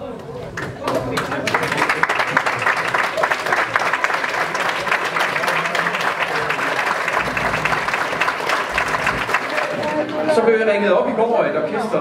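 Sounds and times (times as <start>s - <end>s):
crowd applauding: 0.6s - 10.5s.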